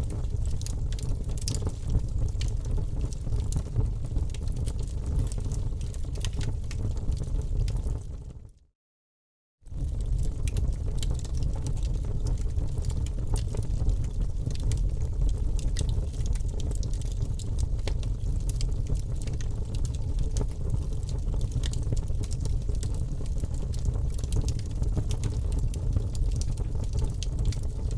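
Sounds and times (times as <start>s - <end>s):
wood fire crackling: 0.0s - 8.3s, 9.7s - 27.9s.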